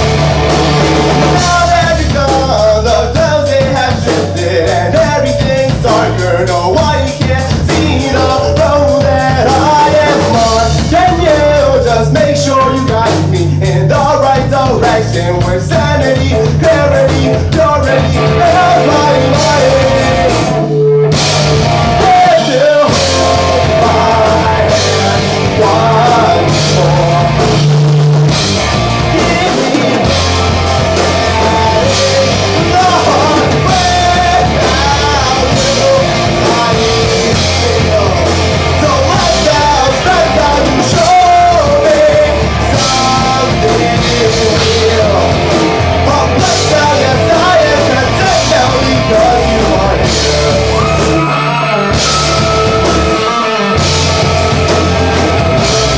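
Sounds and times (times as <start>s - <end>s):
rock band playing: 0.0s - 55.9s
person singing: 1.2s - 27.8s, 29.0s - 55.9s.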